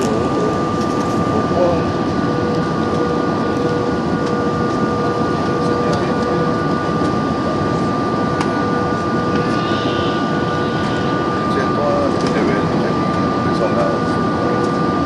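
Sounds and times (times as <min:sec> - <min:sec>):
airplane cabin engine rush: 0:00.0 - 0:15.0
thin steady whine: 0:00.0 - 0:15.0.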